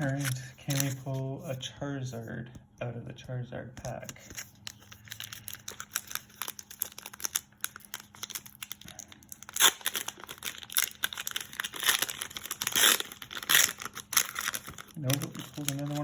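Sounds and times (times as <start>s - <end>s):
foil wrapper crinkling and ripping: 0.0s - 1.2s, 4.2s - 16.0s.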